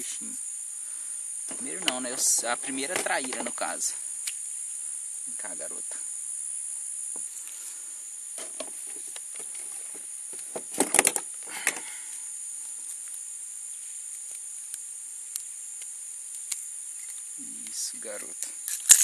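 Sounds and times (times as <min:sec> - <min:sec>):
insects shrilling: 0:00.0 - 0:19.0.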